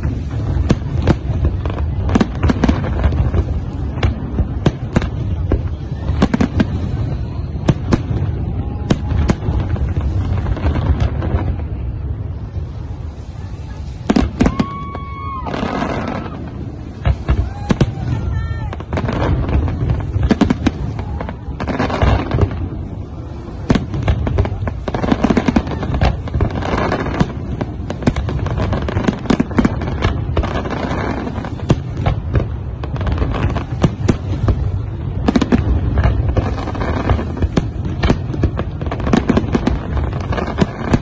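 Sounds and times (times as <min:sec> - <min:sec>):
fireworks bursting: 0:00.0 - 0:41.0
fireworks crackling: 0:00.0 - 0:41.0.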